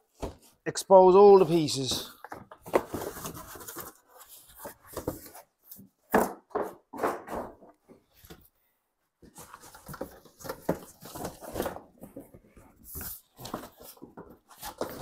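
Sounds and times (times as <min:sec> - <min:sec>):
cardboard rustling and scraping: 0:01.3 - 0:08.5, 0:09.2 - 0:15.0.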